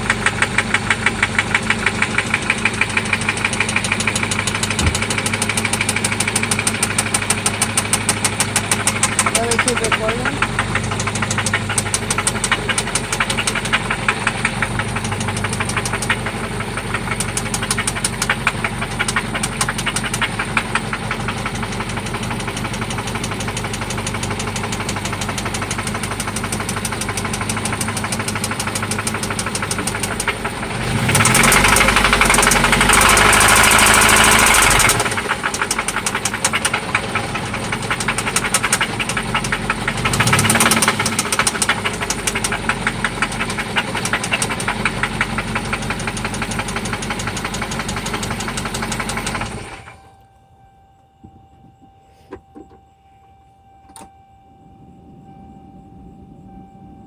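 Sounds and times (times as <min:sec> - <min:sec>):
engine revving: 0:00.0 - 0:50.0
car engine idling with knock: 0:00.0 - 0:50.2, 0:51.1 - 0:52.9.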